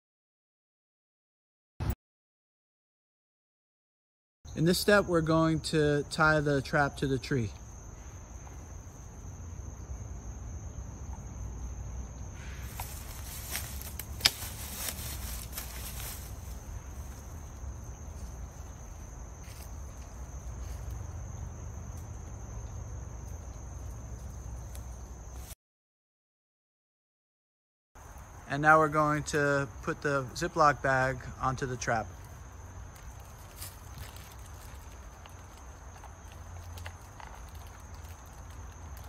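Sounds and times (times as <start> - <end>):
insects chirring: 4.5 - 25.6, 28.0 - 39.0.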